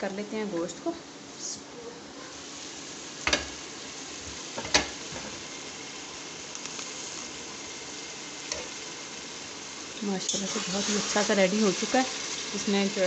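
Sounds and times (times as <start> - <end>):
gravy sizzling in a pot: 2.3 - 13.0.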